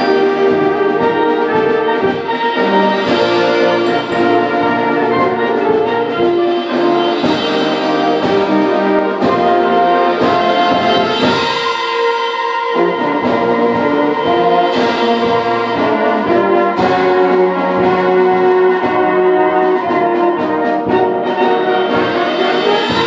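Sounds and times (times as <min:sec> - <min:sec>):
brass band playing chords: 0:00.0 - 0:23.0.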